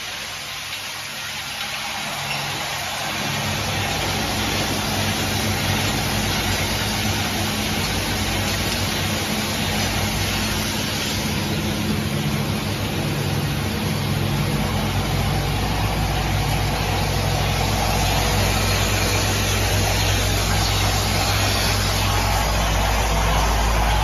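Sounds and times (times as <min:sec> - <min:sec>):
machine mechanical hum: 0:00.0 - 0:24.0.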